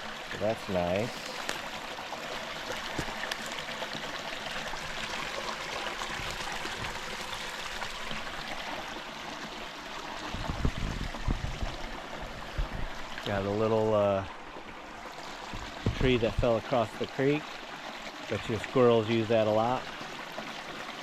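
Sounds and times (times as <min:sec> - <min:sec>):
creek running over rocks: 0:00.0 - 0:21.0.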